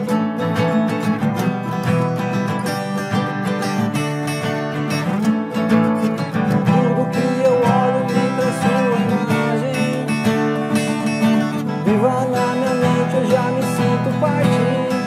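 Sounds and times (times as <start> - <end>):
guitars playing chords: 0.0 - 15.0.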